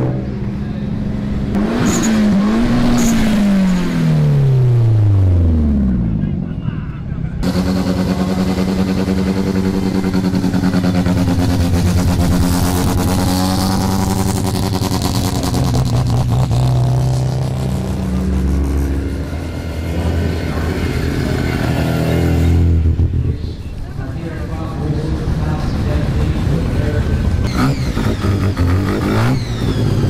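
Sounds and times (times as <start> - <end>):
modified car engines revving: 0.0 - 30.0.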